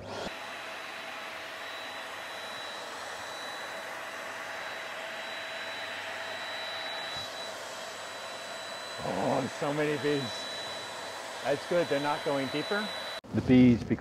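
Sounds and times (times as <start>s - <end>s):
vacuum sucking air with whine: 0.0s - 13.2s.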